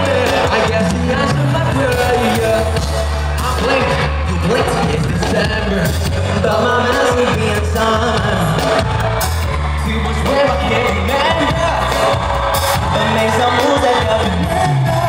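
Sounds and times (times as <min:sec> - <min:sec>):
live pop band playing: 0:00.0 - 0:15.0
man singing: 0:00.0 - 0:15.0.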